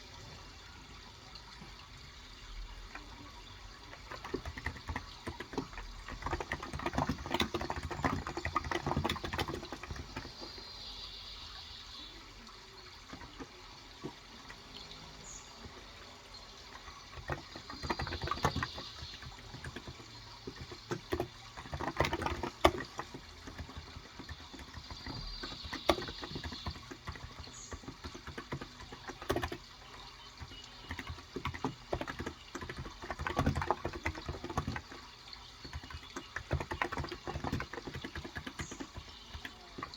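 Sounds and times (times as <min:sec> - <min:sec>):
birds chirping: 0:00.0 - 0:39.9
running water: 0:00.0 - 0:39.9.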